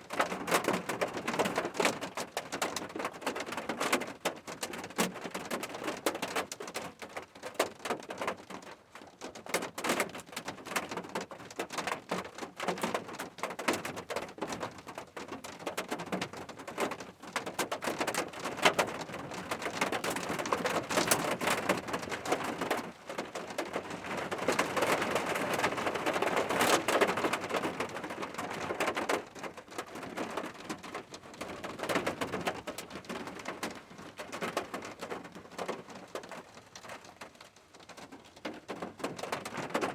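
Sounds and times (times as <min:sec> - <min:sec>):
rain drops striking a surface: 0:00.0 - 0:39.9.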